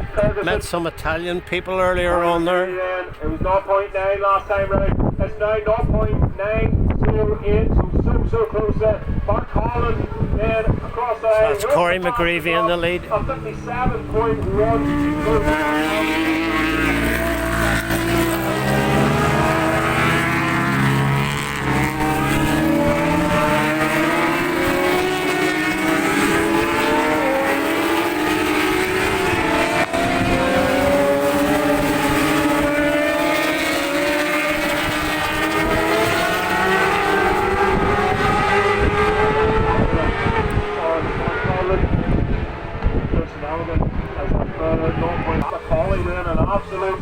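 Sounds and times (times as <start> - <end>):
racing motorcycles revving: 0.0 - 47.0.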